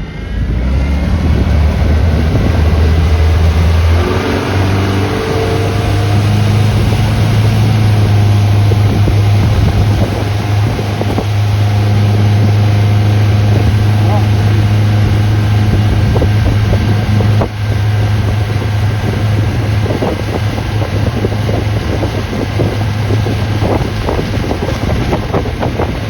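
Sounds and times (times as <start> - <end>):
boat motor running: 0.0 - 26.0
wind noise on microphone: 0.0 - 26.0.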